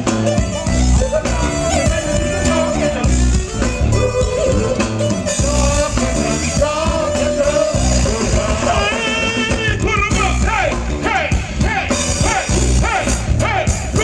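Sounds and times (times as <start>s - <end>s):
live funk band playing: 0.0s - 14.0s
heavy bass pulse: 0.5s - 14.0s
singers singing: 0.9s - 14.0s.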